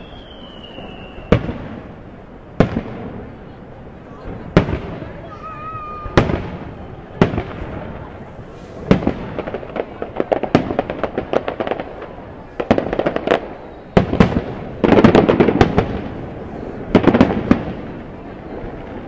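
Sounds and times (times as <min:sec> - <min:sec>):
fireworks bangs: 0:00.0 - 0:19.0
fireworks popping: 0:00.0 - 0:19.0.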